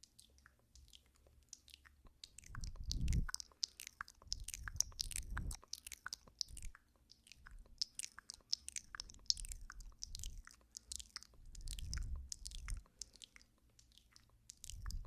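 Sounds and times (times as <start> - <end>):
wet mouth clicks and lip smacks: 0.0 - 15.0.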